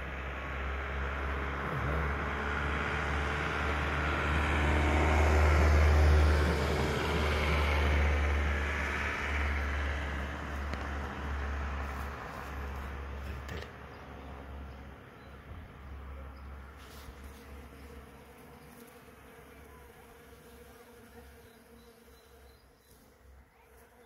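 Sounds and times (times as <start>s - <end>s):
road vehicle passing by: 0.0s - 19.8s.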